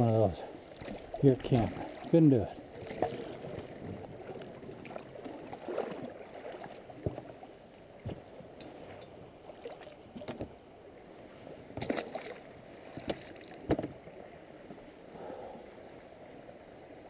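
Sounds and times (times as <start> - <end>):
water splashing at oars: 0.0 - 15.5.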